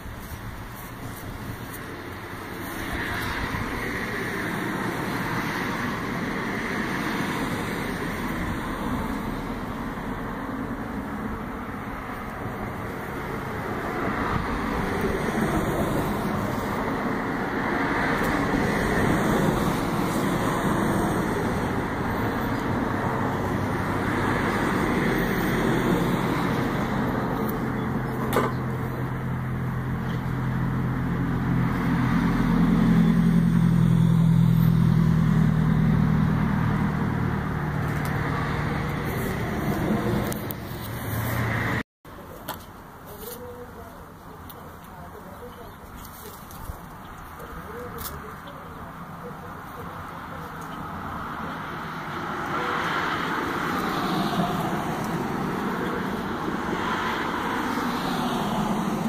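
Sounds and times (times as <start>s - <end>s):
passing cars rushing: 0.0s - 41.8s, 47.4s - 59.0s.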